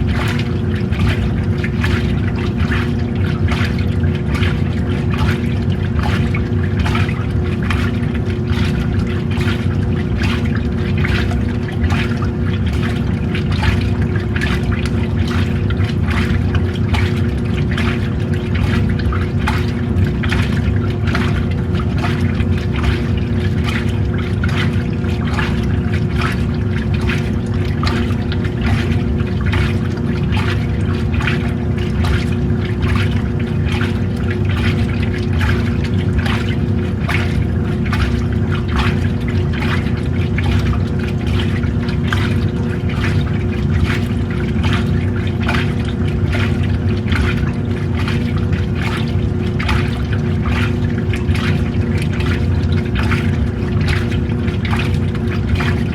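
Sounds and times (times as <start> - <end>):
washing machine motor hum: 0.0 - 55.9
water sloshing and splashing: 0.0 - 55.9.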